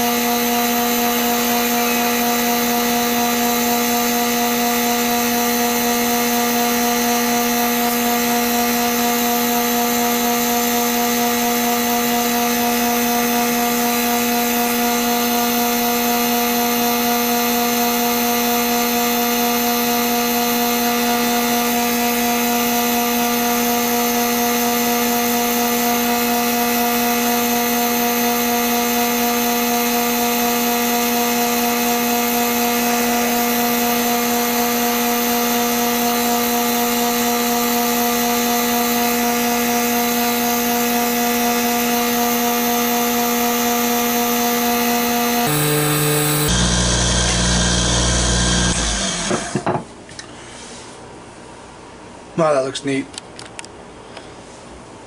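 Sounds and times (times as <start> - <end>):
lathe whining: 0.0 - 49.7
tool cutting resin on lathe: 0.0 - 49.8.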